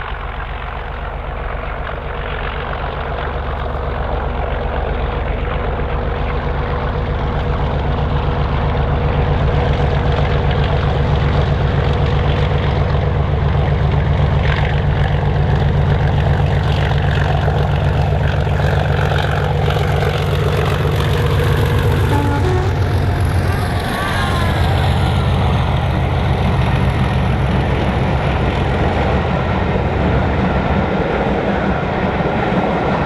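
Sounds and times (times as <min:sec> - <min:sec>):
diesel locomotive engine throbbing: 0:00.0 - 0:33.0.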